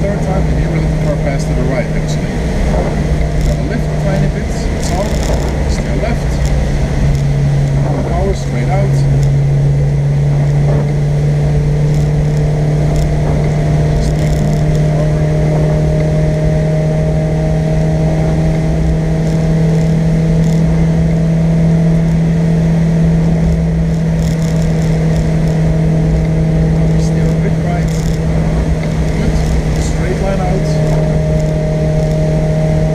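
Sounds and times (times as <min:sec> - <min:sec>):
car engine accelerating: 0:00.0 - 0:32.9
road and tyre rumble: 0:00.0 - 0:32.9.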